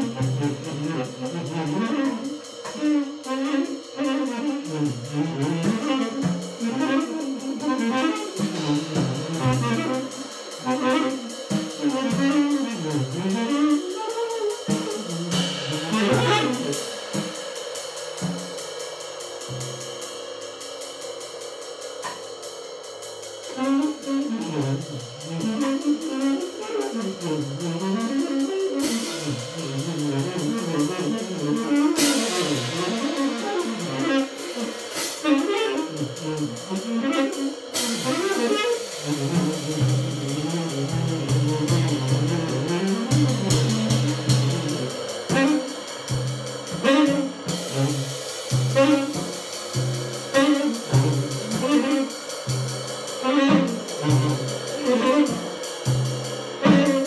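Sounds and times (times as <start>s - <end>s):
tenor saxophone improvising: 0.0s - 17.4s, 23.4s - 57.0s
drum kit with cymbals: 0.0s - 57.0s.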